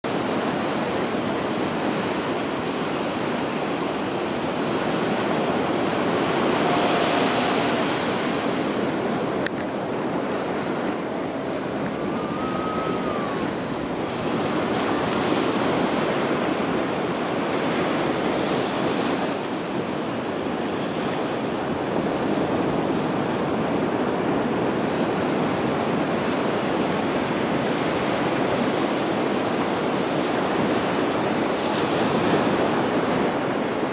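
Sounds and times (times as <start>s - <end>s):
surf washing onto beach: 0.1s - 33.9s
wind buffeting microphone: 0.1s - 33.9s.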